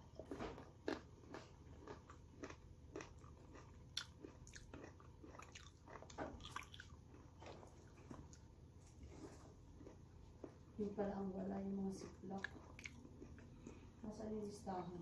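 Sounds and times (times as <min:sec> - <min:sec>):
faint crunching of chewing: 0:00.1 - 0:15.0.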